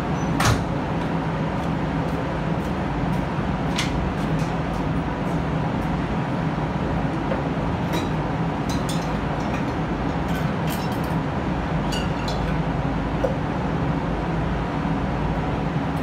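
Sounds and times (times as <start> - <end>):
ventilation fans droning: 0.0 - 16.0.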